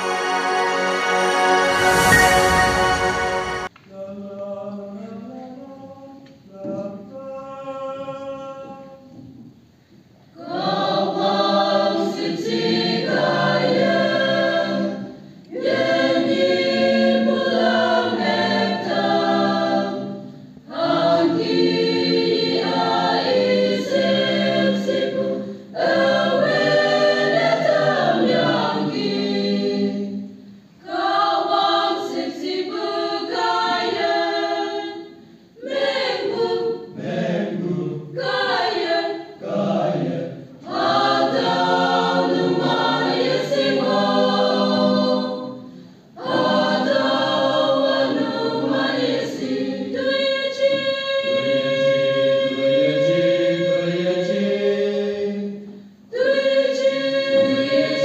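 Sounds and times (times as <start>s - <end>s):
mixed choir singing: 0.0s - 9.3s, 10.3s - 58.0s.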